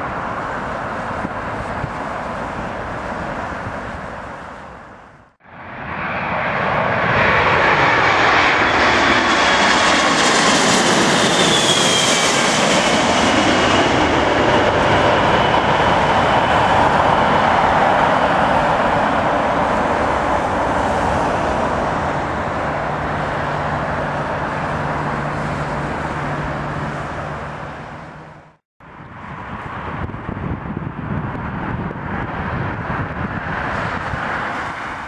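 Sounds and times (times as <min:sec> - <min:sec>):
jet engines passing overhead: 0:00.0 - 0:35.0.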